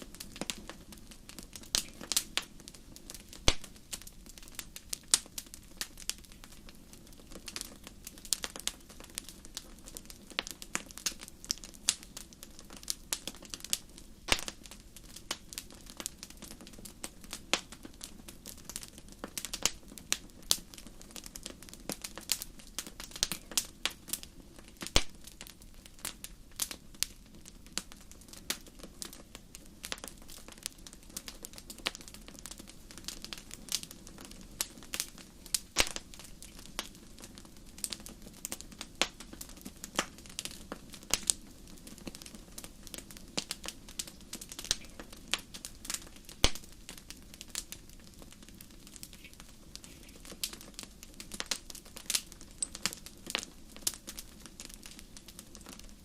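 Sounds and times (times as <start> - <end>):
faint low background noise: 0.0 - 56.0
wood fire crackling: 0.0 - 56.0.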